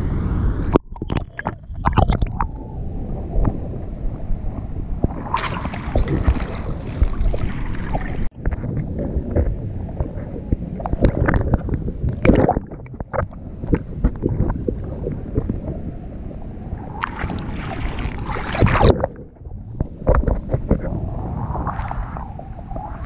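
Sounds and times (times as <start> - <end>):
wind buffeting microphone: 0.0 - 23.0
sea water splashing: 0.6 - 23.0.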